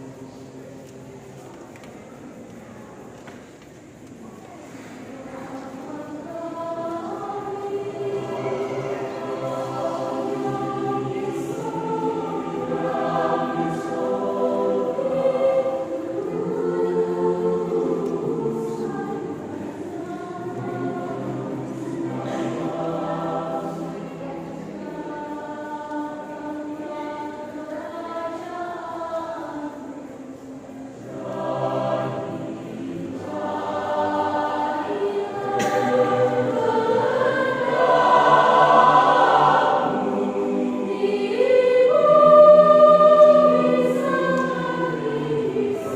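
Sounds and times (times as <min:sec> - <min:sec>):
church choir singing a hymn: 0:00.0 - 0:45.9.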